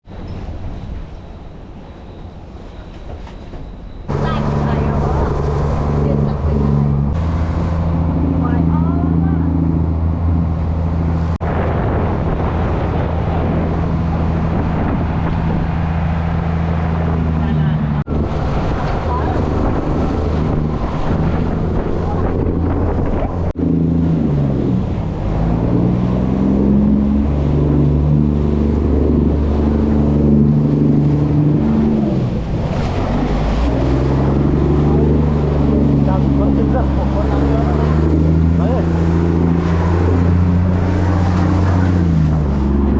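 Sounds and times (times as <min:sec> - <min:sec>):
ship machinery droning: 0:00.1 - 0:42.9
strong wind on microphone: 0:03.8 - 0:42.9.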